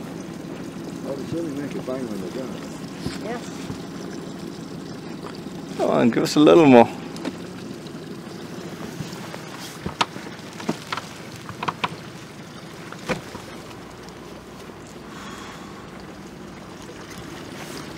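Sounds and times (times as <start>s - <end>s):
outboard motor running: 0.0s - 17.9s.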